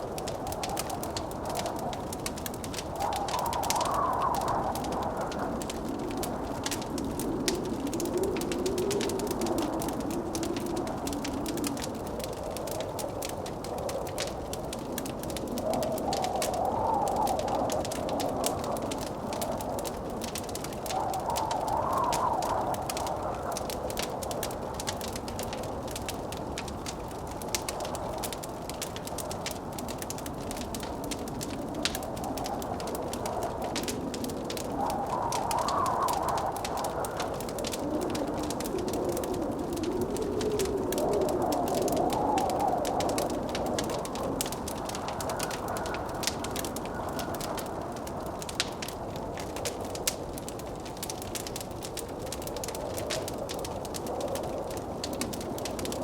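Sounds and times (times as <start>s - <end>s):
blizzard wind rushing: 0.0s - 56.0s
wood fire crackling and popping: 0.0s - 56.0s.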